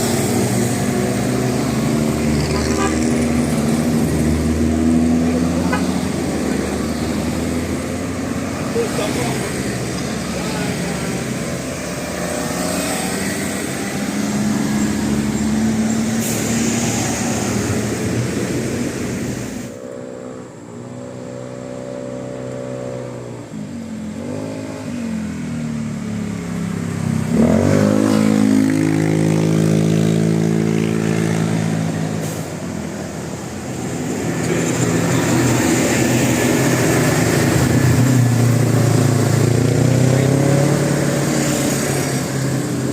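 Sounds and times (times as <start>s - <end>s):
bus engine revving: 0.0s - 42.9s
road traffic: 0.0s - 42.9s.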